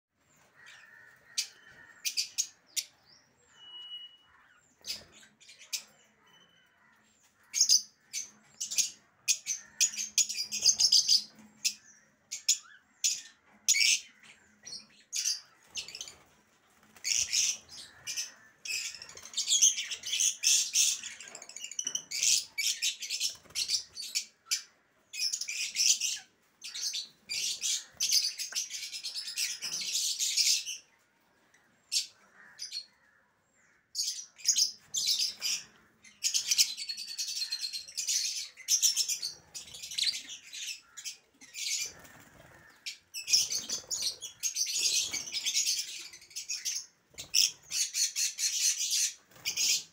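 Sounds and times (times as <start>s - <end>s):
lovebirds chirping: 0.3s - 49.9s.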